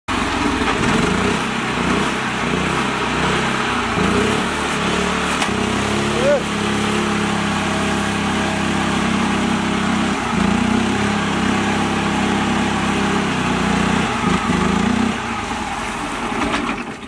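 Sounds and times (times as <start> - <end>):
small tractor engine running hard: 0.1 - 17.0
wheel spinning in mud: 0.1 - 17.0.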